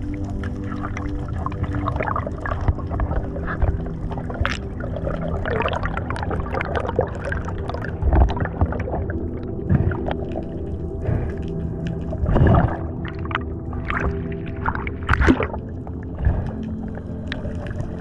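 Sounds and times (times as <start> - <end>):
soft background music: 0.0 - 18.0
underwater bubbling and gurgling: 0.0 - 18.0.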